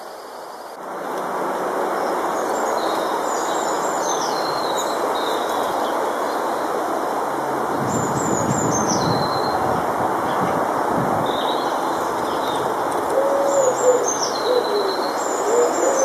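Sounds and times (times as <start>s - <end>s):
outdoor background hiss: 0.0s - 16.0s
songbird singing: 1.9s - 16.0s.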